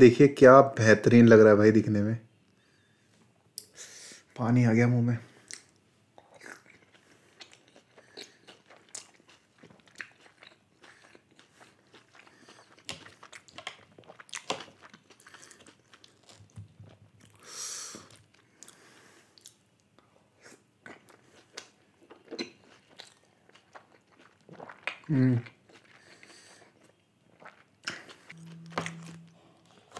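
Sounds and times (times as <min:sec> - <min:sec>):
person chewing food: 0:05.4 - 0:29.9.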